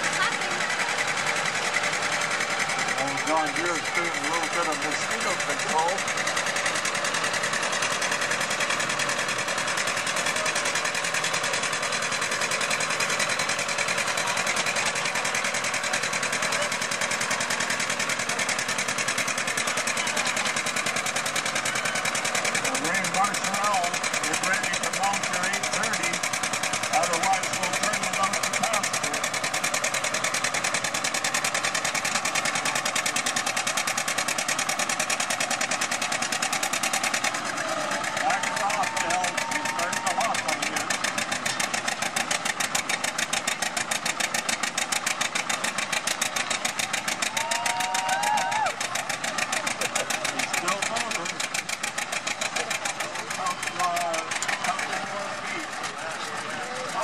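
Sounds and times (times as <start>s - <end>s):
tractor engine puttering: 0.0s - 57.0s.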